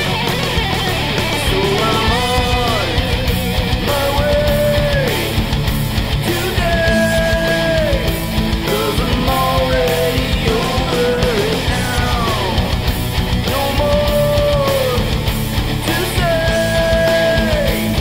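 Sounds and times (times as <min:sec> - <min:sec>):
hard rock music: 0:00.0 - 0:18.0.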